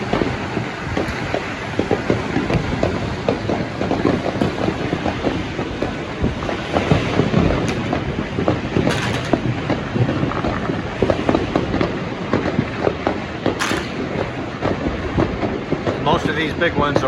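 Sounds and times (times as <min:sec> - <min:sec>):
firecrackers popping and crackling: 0:00.0 - 0:17.0
sharp firework cracks: 0:00.0 - 0:17.0.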